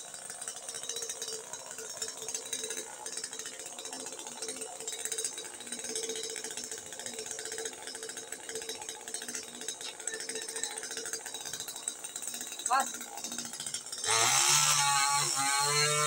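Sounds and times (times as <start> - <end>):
chainsaw running: 0.0 - 16.0.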